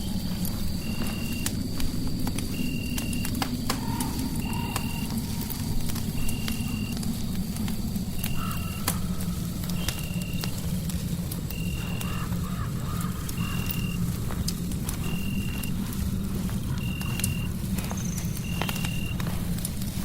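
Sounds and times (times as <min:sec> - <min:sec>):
fireplace crackling and popping: 0:00.0 - 0:20.0.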